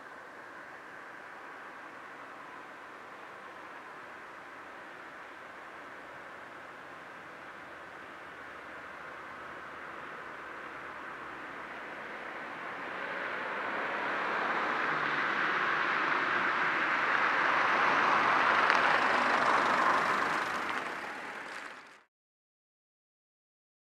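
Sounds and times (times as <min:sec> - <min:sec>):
car approaching: 0:00.0 - 0:22.1.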